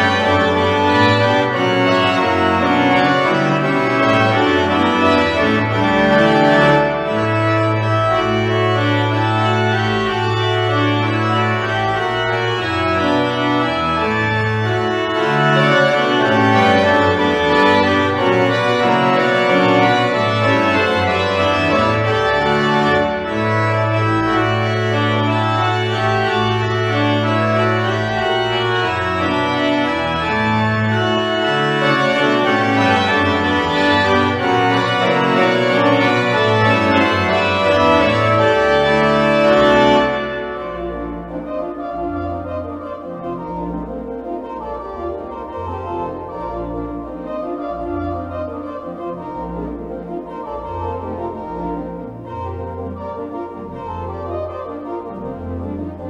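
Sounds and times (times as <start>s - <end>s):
church pipe organ playing chords: 0.0s - 56.0s.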